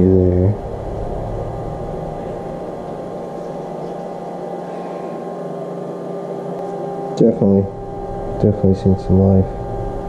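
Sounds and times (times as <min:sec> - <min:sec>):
steady tonal hum: 0:00.0 - 0:10.0.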